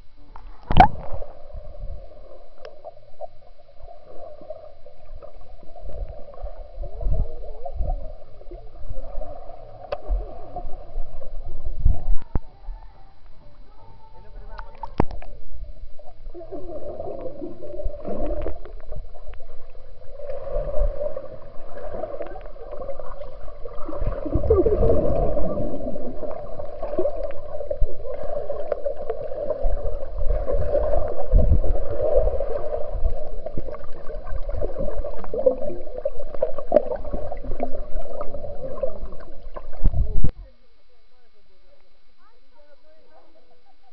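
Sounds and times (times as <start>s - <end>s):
underwater water rushing and bubbling: 0.0s - 40.3s.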